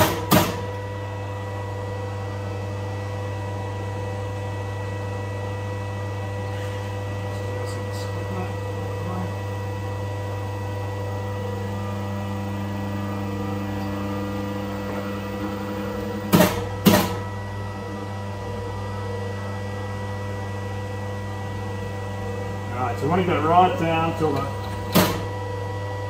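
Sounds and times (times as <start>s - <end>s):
press machine electric hum: 0.0s - 26.0s.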